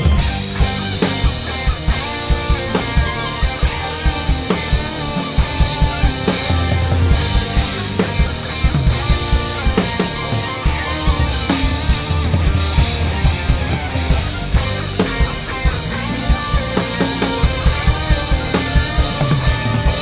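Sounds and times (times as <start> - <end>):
drum kit played hard: 0.0 - 20.0
rock backing track: 0.0 - 20.0.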